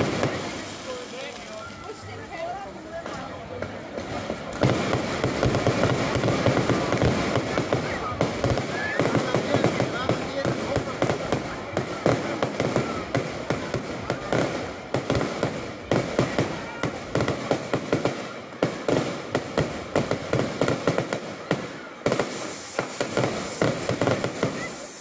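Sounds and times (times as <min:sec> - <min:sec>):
bright fireworks hiss: 0:00.0 - 0:25.0
fireworks bangs and crackles: 0:00.0 - 0:25.0.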